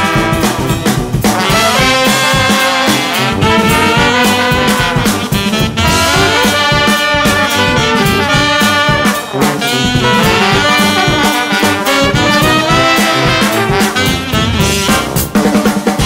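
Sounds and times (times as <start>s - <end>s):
brass band jazz music: 0.0s - 16.0s.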